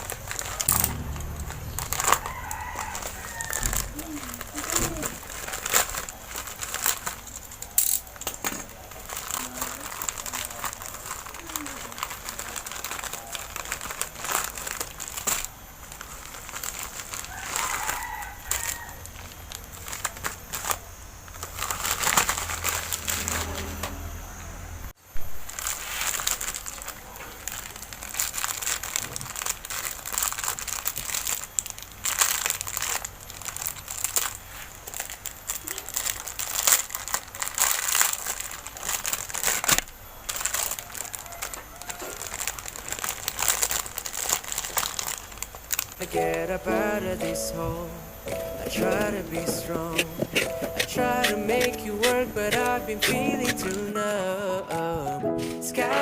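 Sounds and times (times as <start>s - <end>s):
packaging crinkling: 0.0s - 23.7s, 25.2s - 56.0s.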